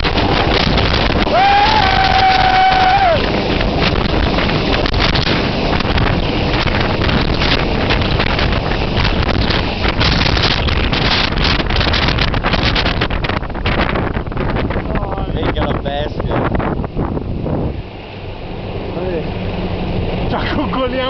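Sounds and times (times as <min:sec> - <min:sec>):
helicopter rushing noise: 0:00.0 - 0:21.0
wind buffeting microphone: 0:00.0 - 0:21.0.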